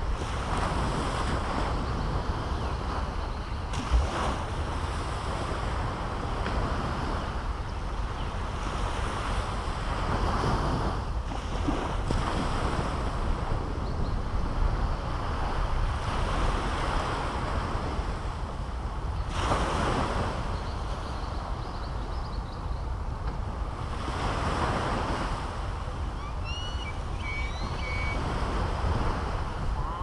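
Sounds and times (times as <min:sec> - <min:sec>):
small waves breaking on beach: 0:00.0 - 0:22.1, 0:22.9 - 0:30.0
wind rumble on microphone: 0:00.0 - 0:30.0.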